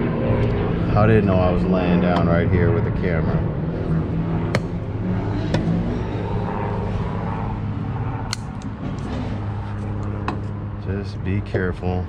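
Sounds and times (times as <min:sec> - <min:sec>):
airplane drone overhead: 0:00.0 - 0:12.0.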